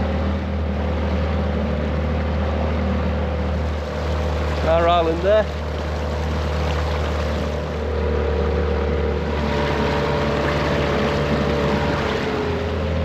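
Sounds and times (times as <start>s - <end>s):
boat motor humming: 0.0s - 13.0s
water noise: 0.0s - 13.0s.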